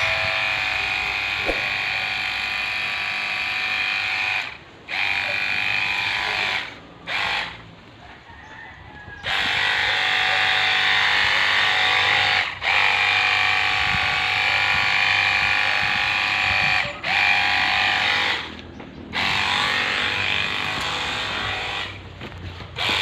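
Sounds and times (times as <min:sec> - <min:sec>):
electric pump whine: 0:00.0 - 0:07.7, 0:09.2 - 0:23.0.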